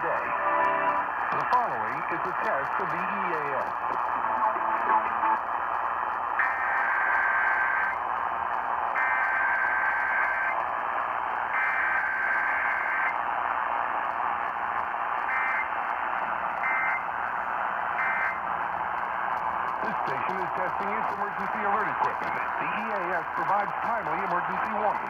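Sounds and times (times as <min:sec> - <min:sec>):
radio reception hiss: 0:00.0 - 0:08.0, 0:09.0 - 0:25.0.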